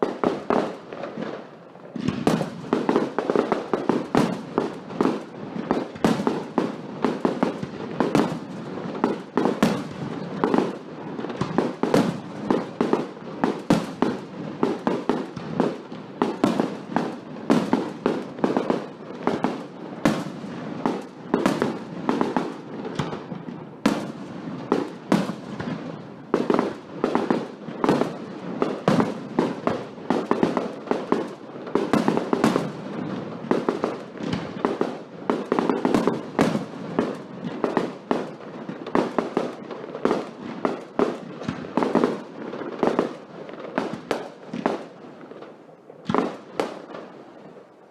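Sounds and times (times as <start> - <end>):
fireworks bangs and pops: 0.0 - 47.9.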